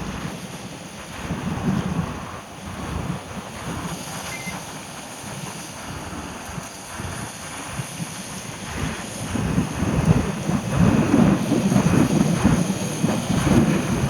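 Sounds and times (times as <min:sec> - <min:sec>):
heavy rain hiss: 0:00.0 - 0:14.0
wind buffeting microphone: 0:00.0 - 0:14.0.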